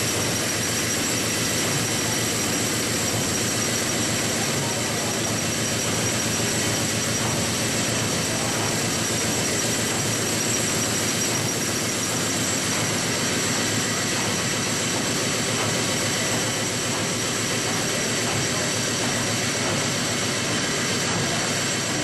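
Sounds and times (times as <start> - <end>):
steam engine machinery running: 0.0 - 22.0.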